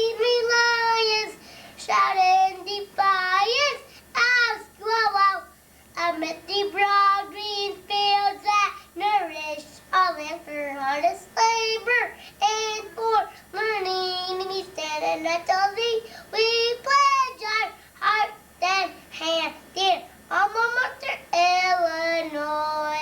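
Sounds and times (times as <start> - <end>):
boy singing unaccompanied: 0.0 - 23.0.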